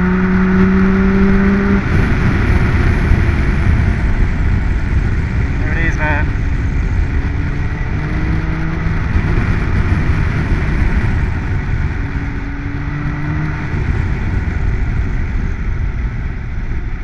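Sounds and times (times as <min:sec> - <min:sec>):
motorcycle engine: 0:00.0 - 0:17.0
wind rush over helmet: 0:00.0 - 0:17.0.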